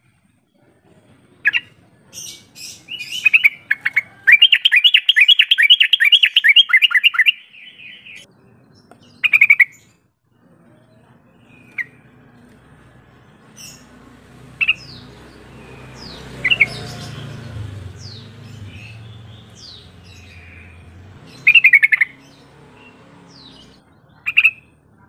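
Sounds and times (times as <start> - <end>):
bird chirping: 1.4 - 25.0.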